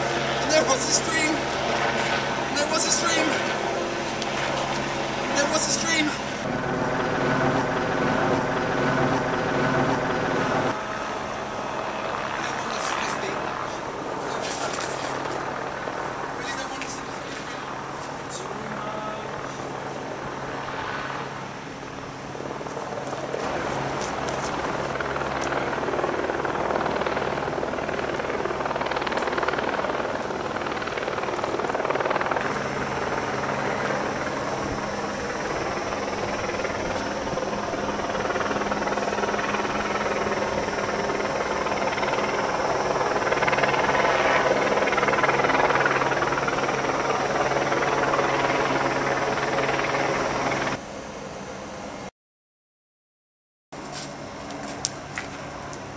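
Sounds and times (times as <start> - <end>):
helicopter rotor and engine drone: 0.0 - 52.1, 53.8 - 55.9.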